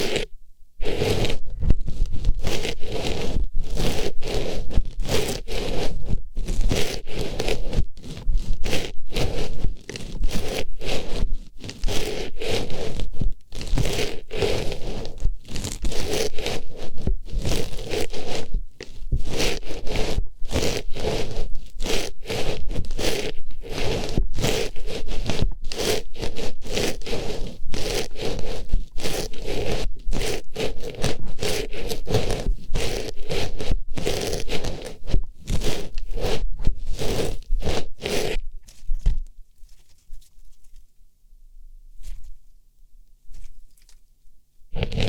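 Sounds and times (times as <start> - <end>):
scratchy rustling on microphone: 0.0 - 41.0, 41.9 - 42.6, 43.2 - 44.1, 44.7 - 45.0.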